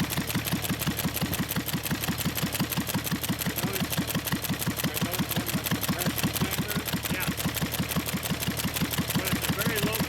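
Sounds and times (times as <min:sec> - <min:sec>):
stationary engine clattering: 0:00.0 - 0:10.0.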